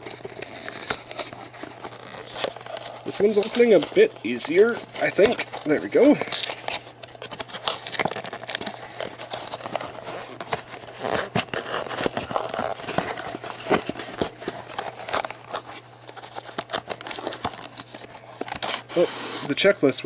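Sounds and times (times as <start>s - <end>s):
cardboard box tearing open: 0.0s - 19.5s
packaging clicks and scrapes: 0.0s - 19.6s.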